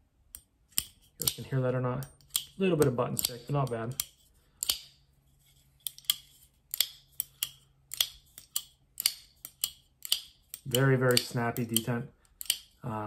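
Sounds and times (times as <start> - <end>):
folding knife clicking: 0.3 - 1.4, 2.0 - 5.0, 5.8 - 12.8.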